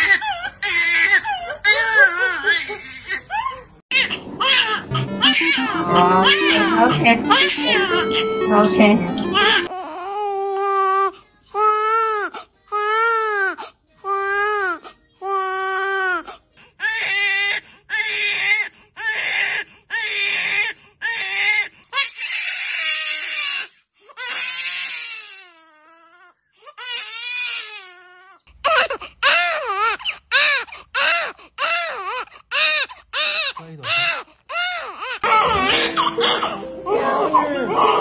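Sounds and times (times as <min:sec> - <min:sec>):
newborn babies crying: 0:00.0 - 0:04.7, 0:09.3 - 0:38.0.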